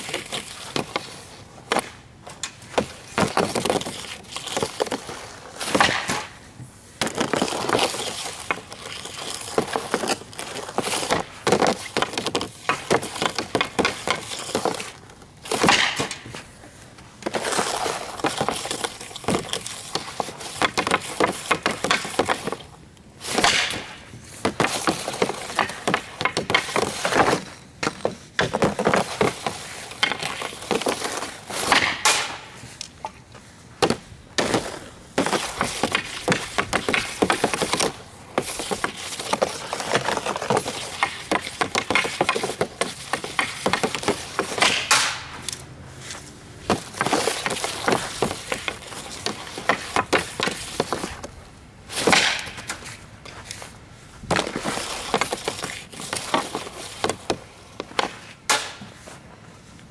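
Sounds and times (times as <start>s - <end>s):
puck clattering against net: 0.0s - 6.4s, 7.0s - 59.0s
puck cracking off stick: 0.0s - 59.0s
hockey stick scraping ice: 0.0s - 59.4s.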